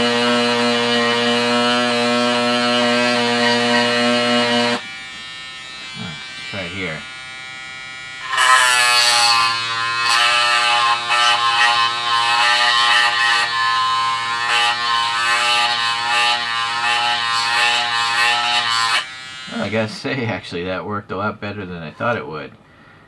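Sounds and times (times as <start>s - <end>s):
electric sander buzzing: 0.0s - 20.4s.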